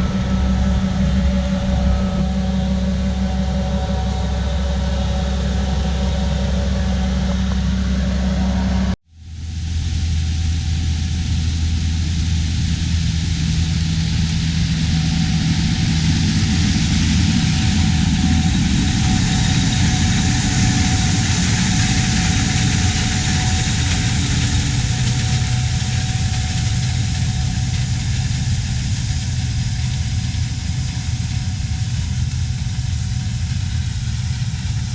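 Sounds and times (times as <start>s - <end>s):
diesel harvest machinery running: 0.0s - 34.9s.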